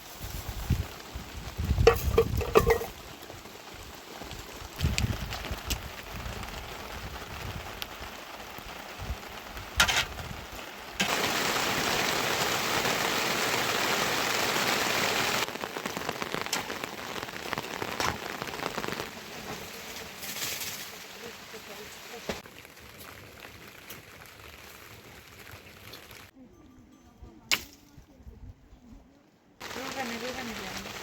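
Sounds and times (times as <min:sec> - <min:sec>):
dense downpour: 0:00.0 - 0:26.3, 0:29.6 - 0:31.0
rain falling: 0:00.0 - 0:26.3, 0:29.6 - 0:31.0.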